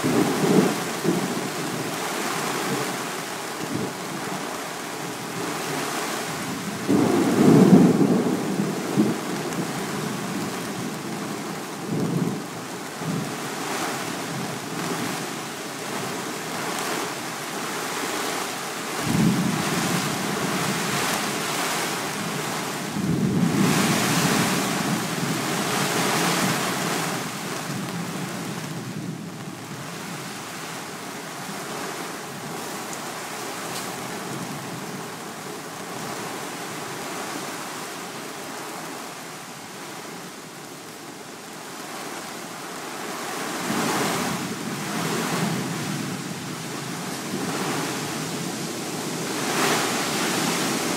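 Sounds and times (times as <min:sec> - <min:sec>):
heavy rain: 0:00.0 - 0:50.9
wind: 0:00.0 - 0:50.9.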